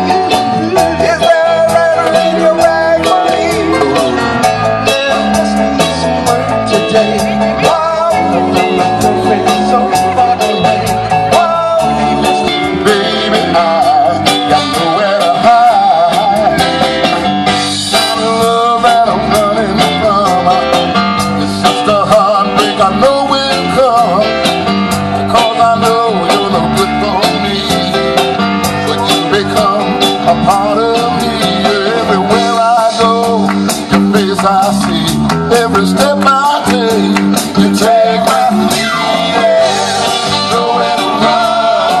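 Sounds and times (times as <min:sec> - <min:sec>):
person singing: 0:00.0 - 0:17.1, 0:17.9 - 0:24.4, 0:25.2 - 0:42.0
guitar: 0:00.0 - 0:42.0
live band playing: 0:00.0 - 0:42.0
steady drum beat: 0:00.0 - 0:42.0.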